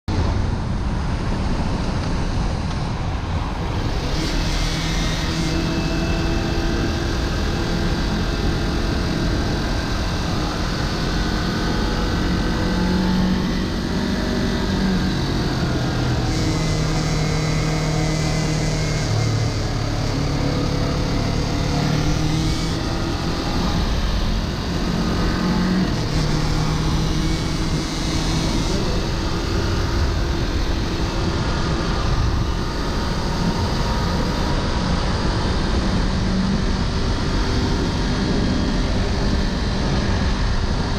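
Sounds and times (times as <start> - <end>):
wind and road noise: 0.0 - 40.9
motorcycle engine running: 0.1 - 40.9
whining noise: 0.1 - 40.9.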